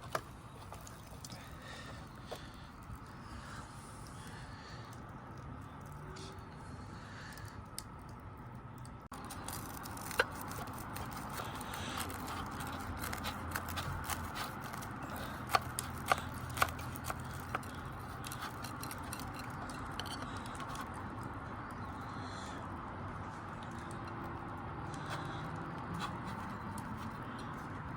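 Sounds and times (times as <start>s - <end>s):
wood fire burning: 0.0s - 27.9s.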